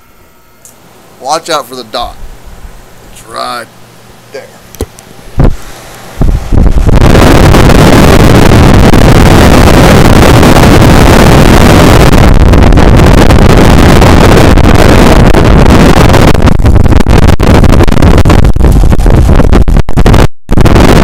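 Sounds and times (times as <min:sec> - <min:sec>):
air conditioner airflow on microphone: 0:00.0 - 0:21.0.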